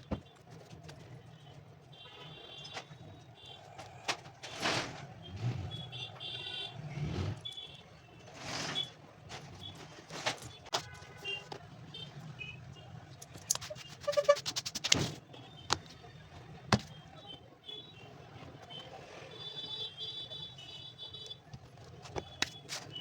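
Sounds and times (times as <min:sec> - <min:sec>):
background traffic noise: 0:00.0 - 0:23.0.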